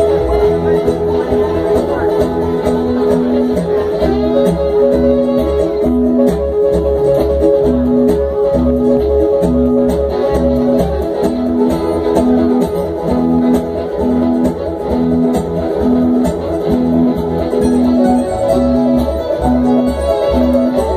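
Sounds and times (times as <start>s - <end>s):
acoustic guitars picking: 0.0s - 20.9s
upright bass plucking: 0.0s - 20.9s.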